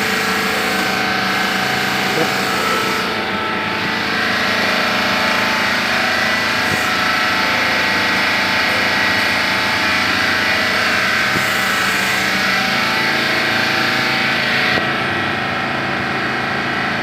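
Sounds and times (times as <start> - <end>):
machine whine over motor hum: 0.0 - 17.0.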